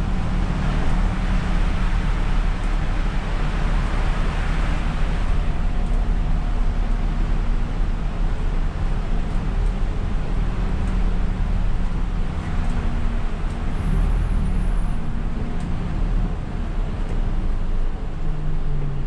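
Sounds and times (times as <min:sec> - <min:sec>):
bus engine hum: 0:00.0 - 0:19.0
tyre noise on wet road: 0:00.0 - 0:19.0.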